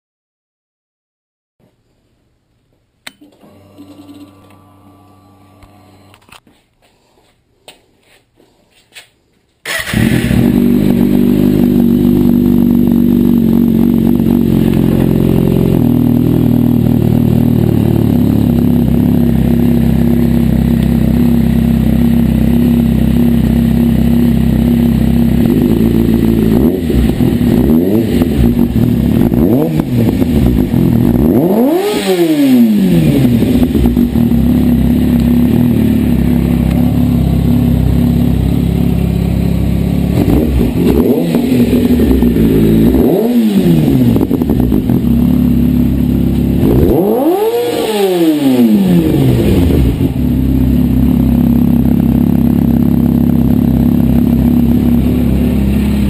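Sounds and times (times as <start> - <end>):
motorcycle engine idling and revving: 9.7 - 56.0.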